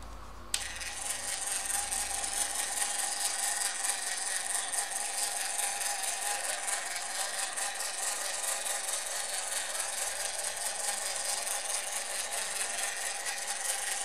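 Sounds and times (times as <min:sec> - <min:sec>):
small electric motor whirring: 0:00.6 - 0:14.0.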